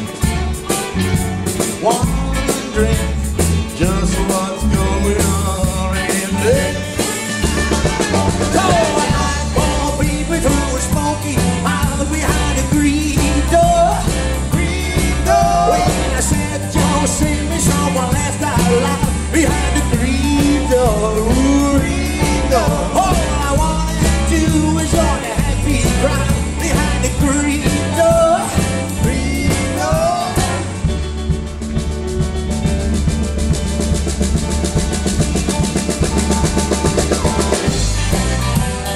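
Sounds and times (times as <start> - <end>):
rock and roll band playing: 0.0 - 38.9
man singing: 1.5 - 31.0, 36.2 - 38.9.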